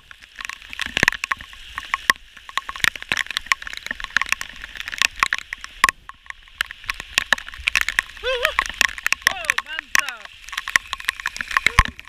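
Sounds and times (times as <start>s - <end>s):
heavy rain falling: 0.0s - 12.0s
raindrops tapping close by: 0.0s - 12.0s.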